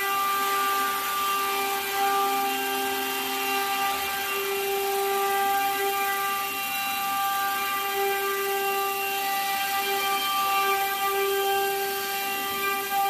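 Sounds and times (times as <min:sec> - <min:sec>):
laser marking machine whine: 0:00.0 - 0:13.0.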